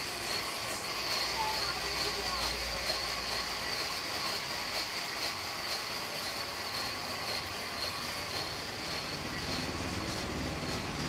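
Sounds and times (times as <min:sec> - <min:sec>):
sawmill machinery running: 0:00.0 - 0:11.0
thin high whine: 0:00.0 - 0:11.0.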